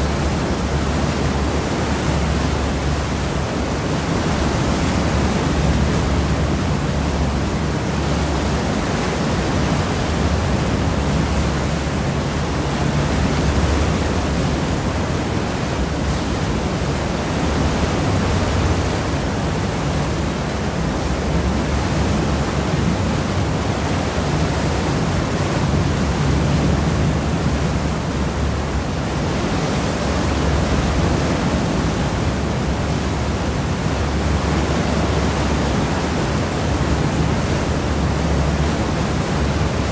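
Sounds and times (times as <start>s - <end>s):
water rushing in ship wake: 0.0s - 39.9s.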